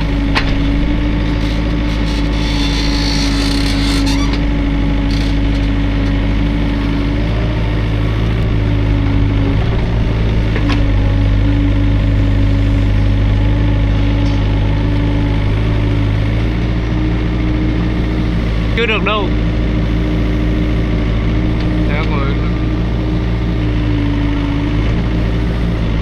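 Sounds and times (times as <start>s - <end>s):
excavator diesel engine: 0.0s - 26.0s.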